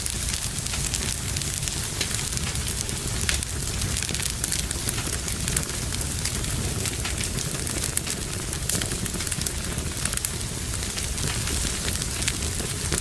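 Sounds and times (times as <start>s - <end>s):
fireplace fire crackling: 0.0s - 13.0s.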